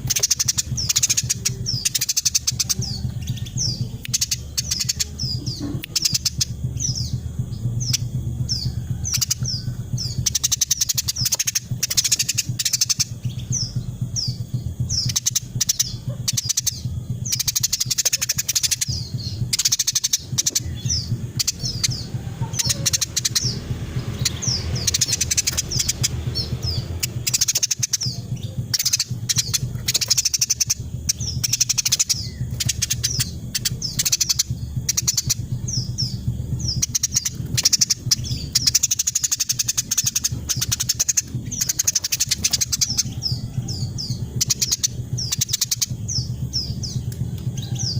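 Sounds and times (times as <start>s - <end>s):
sparrow chirping chatter: 0.0s - 47.9s
steady low hum: 0.0s - 47.9s.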